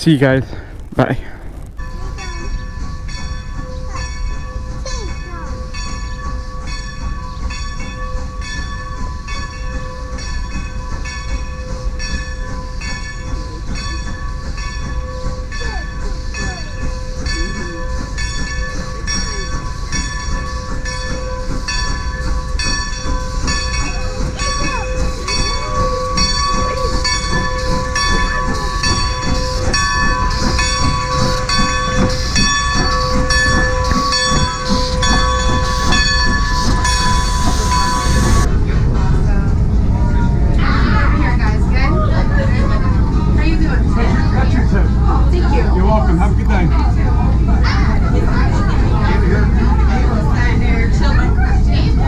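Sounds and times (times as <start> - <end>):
train rumble: 0.0 - 52.0
railroad bell ringing: 1.8 - 52.0.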